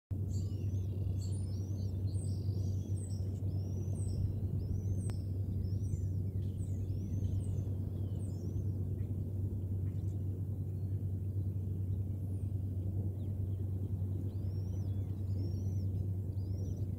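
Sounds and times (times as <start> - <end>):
steady low hum: 0.1 - 16.9
bird chirping: 0.2 - 16.9.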